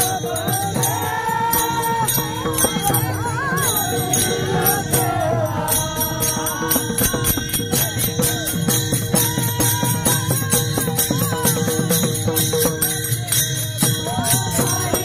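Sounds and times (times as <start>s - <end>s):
person singing ornamented melody: 0.0s - 12.0s
jingling hand cymbals: 0.0s - 15.0s.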